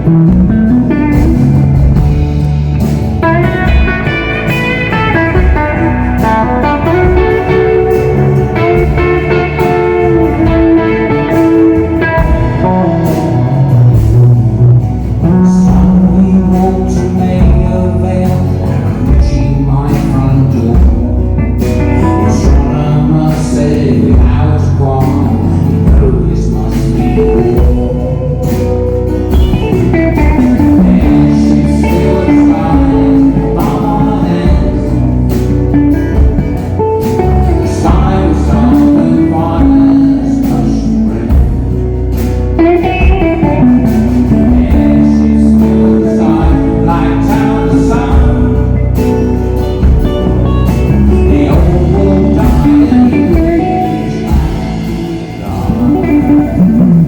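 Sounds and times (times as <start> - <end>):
electric guitar: 0.0 - 57.0
live rock band playing: 0.0 - 57.0
person singing: 3.2 - 57.0.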